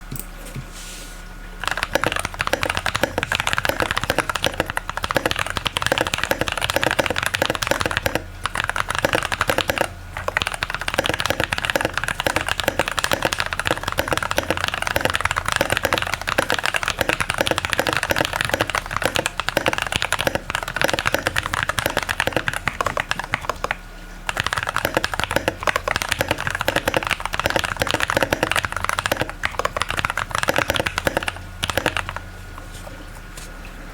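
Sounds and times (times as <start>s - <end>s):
fast typing on mechanical keyboard: 1.6s - 32.3s.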